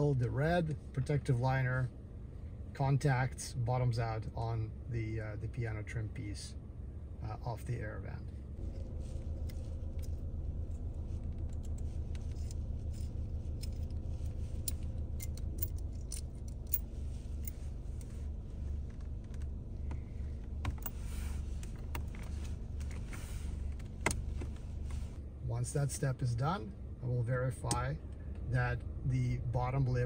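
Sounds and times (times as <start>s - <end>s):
low hum inside car: 0.0s - 30.0s.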